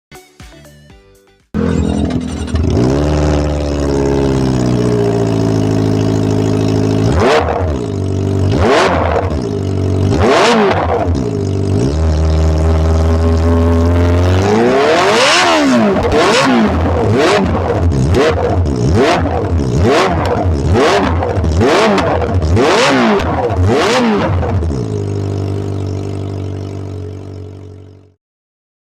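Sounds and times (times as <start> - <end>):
motorcycle engine revving: 1.6 - 28.2.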